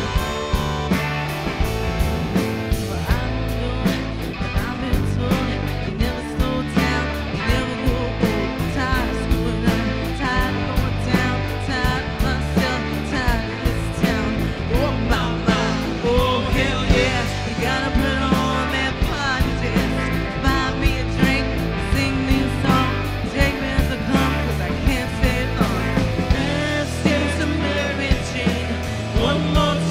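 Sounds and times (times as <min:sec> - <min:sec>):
person singing: 0:00.0 - 0:01.8, 0:02.7 - 0:29.9
live rock band: 0:00.0 - 0:29.9.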